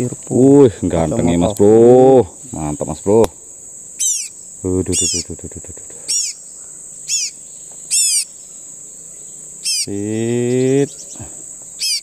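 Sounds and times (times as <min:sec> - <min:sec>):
high insect drone: 0:00.0 - 0:12.0
small bird calling: 0:01.0 - 0:12.0.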